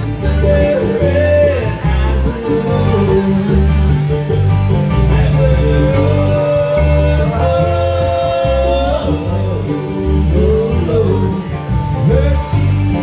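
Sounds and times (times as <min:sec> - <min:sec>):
bluegrass band playing: 0:00.0 - 0:13.0
person singing: 0:00.0 - 0:13.0.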